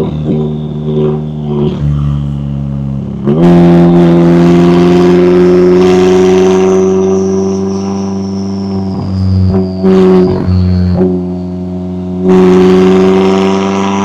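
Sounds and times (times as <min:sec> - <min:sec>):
car engine revving: 0:00.0 - 0:14.0
thin high whine: 0:00.0 - 0:14.0.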